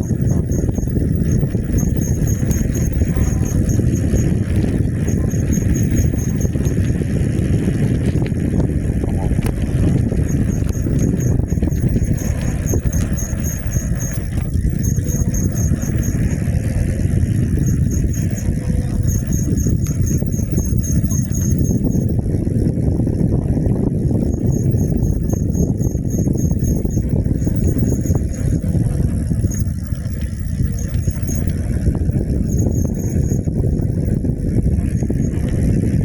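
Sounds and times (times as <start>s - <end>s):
e-bike road noise: 0.0s - 36.0s
rapid high-pitched ticking: 0.0s - 36.0s
wind rumble on microphone: 0.0s - 36.0s.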